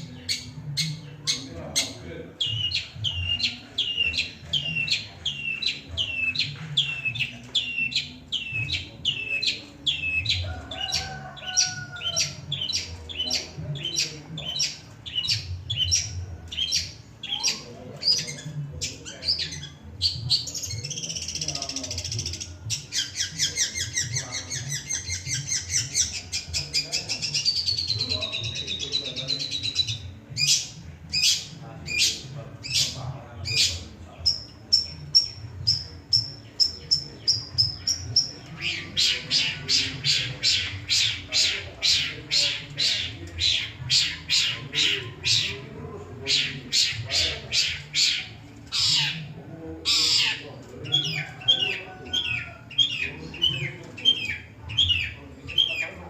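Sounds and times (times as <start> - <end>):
bird singing: 0.0 - 56.0.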